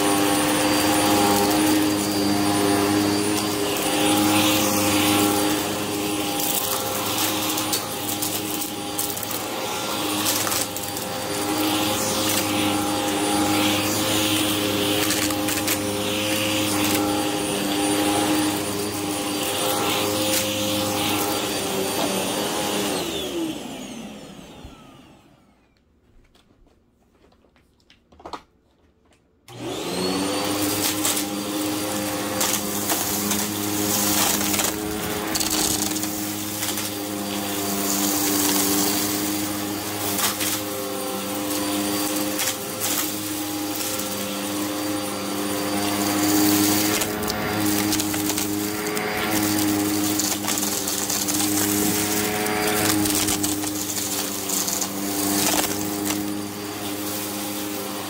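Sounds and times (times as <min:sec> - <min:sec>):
debris rattling in vacuum: 0:00.0 - 0:22.5, 0:30.4 - 0:58.0
vacuum cleaner running on carpet: 0:00.0 - 0:25.6, 0:29.5 - 0:58.0
vacuum motor winding down: 0:00.0 - 0:25.6, 0:29.5 - 0:58.0.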